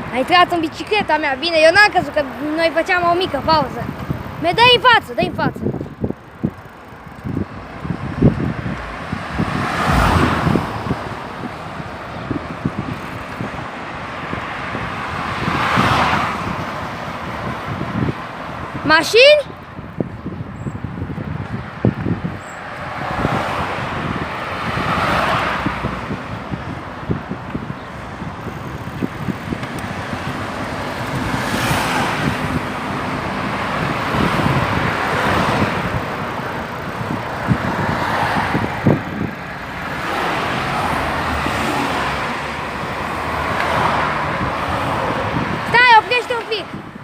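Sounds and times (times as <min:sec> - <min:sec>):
cars passing by: 0:00.0 - 0:47.0
wind and road rumble: 0:00.0 - 0:47.0.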